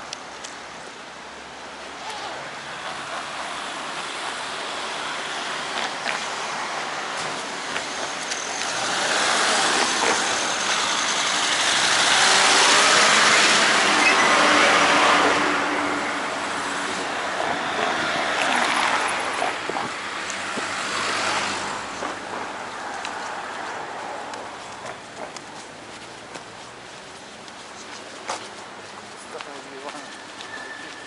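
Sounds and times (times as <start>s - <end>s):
vehicles passing close by: 0.0s - 31.0s.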